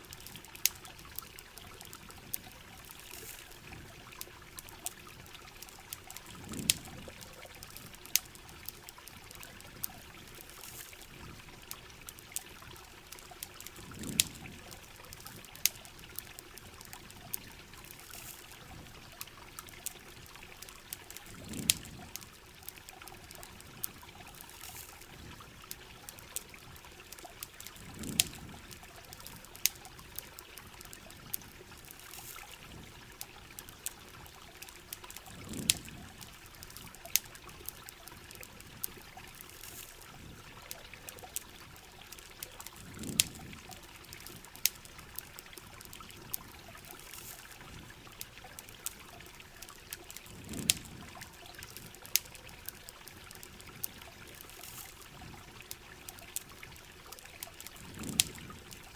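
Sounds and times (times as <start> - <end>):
campfire crackling: 0.0 - 58.9
running water: 0.0 - 58.9
steady rain: 0.0 - 58.9.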